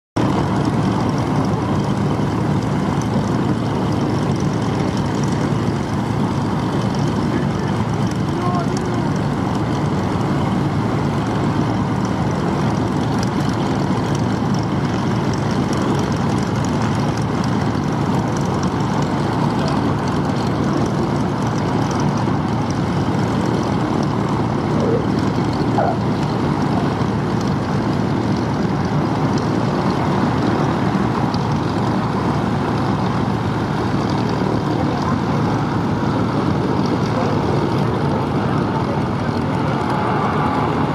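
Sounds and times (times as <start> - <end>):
propeller engines droning: 0.2 - 40.9.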